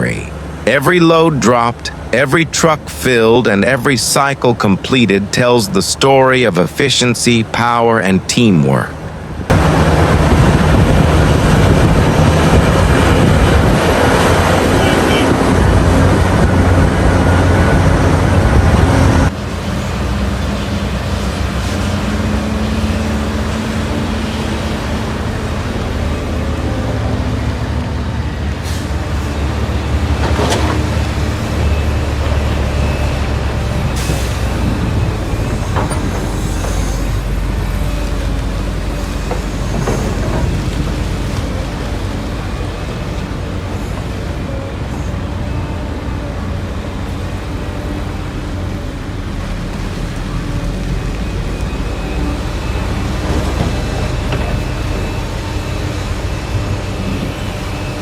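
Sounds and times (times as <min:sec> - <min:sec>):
diesel machinery rumbling: 0:00.0 - 0:58.0.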